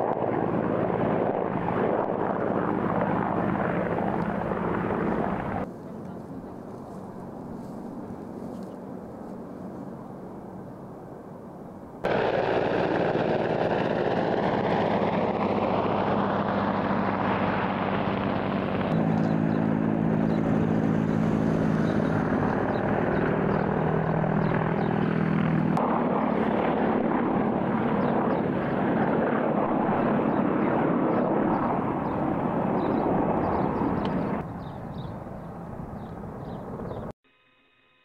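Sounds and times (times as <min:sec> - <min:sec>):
helicopter rotor and turbine noise: 0:00.0 - 0:38.0.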